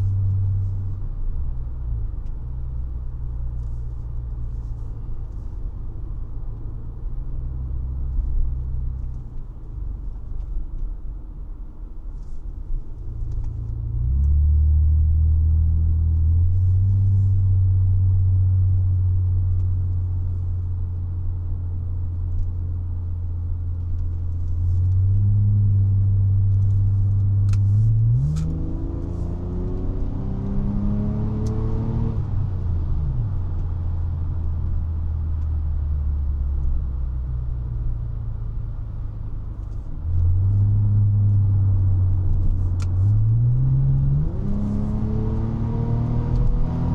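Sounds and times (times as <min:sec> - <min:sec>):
car engine and exhaust drone: 0:00.0 - 0:46.9.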